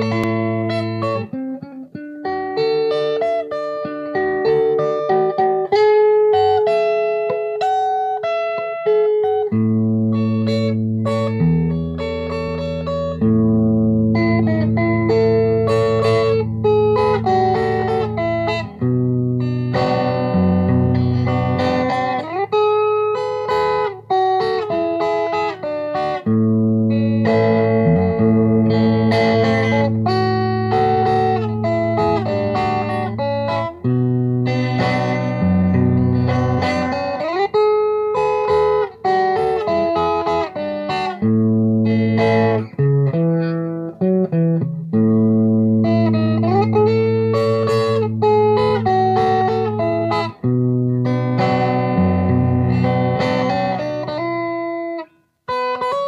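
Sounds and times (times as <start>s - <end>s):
fingerstyle electric guitar: 0.0s - 56.0s.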